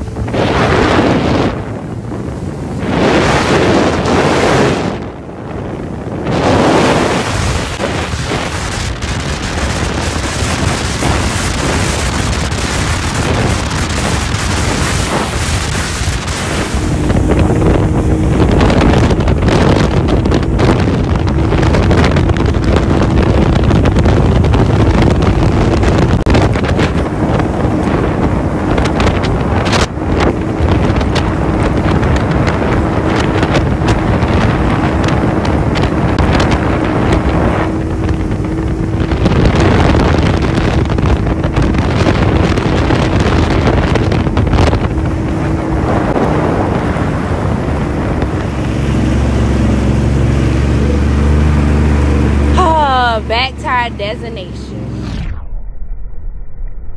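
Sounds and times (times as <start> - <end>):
wind buffeting microphone: 0.0 - 55.2
jet ski engine drone: 0.0 - 55.3.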